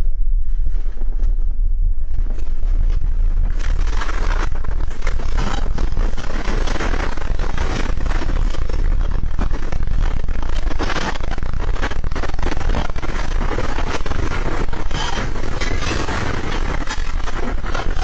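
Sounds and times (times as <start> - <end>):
earthquake rumble: 0.0 - 18.0.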